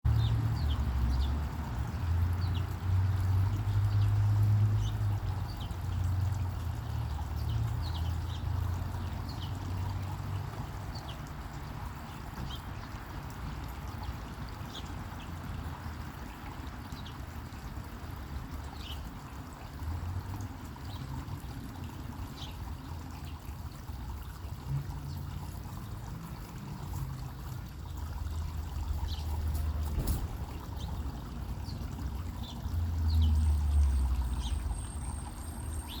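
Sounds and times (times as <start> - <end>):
sparrows chirping: 0.1 - 15.6, 18.6 - 19.4, 20.7 - 36.0
fountain water splashing: 0.1 - 36.0.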